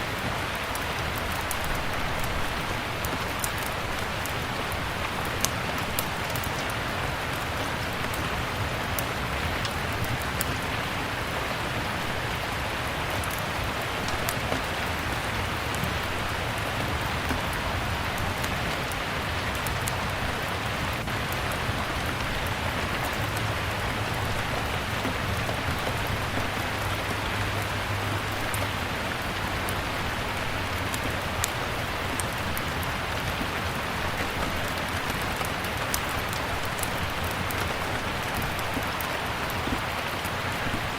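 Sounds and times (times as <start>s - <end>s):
steady rain falling: 0.0s - 40.9s
wood fire crackling: 0.0s - 40.9s.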